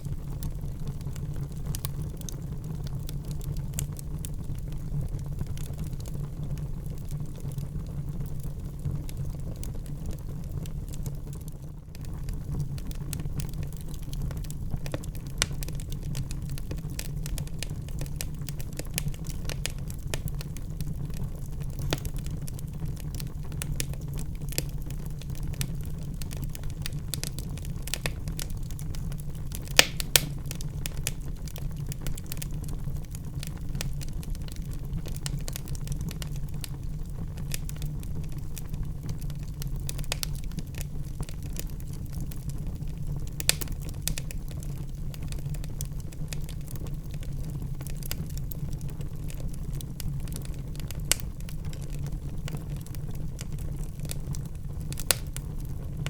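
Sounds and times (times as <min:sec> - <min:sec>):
fire crackling: 0:00.0 - 0:56.0
fire flames rumbling: 0:00.0 - 0:56.0
fire popping: 0:00.0 - 0:56.0.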